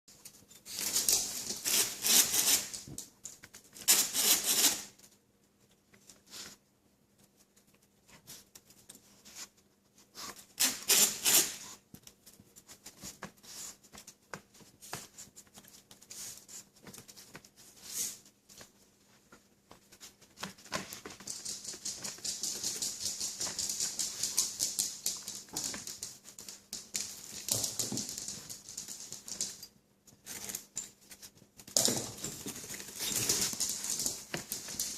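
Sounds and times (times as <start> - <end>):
puppies pattering and rustling: 0.1 - 10.6, 11.6 - 34.9.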